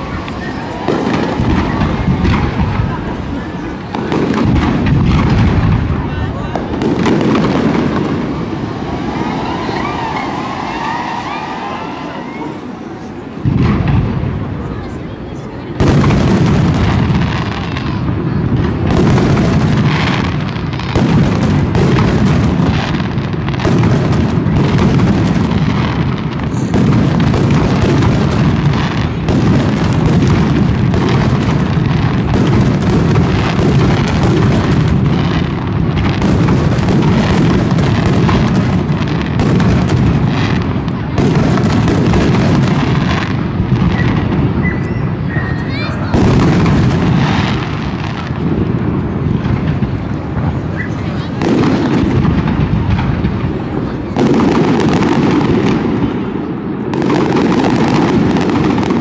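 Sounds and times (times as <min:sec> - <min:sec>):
fireworks booming: 0:00.0 - 0:59.0.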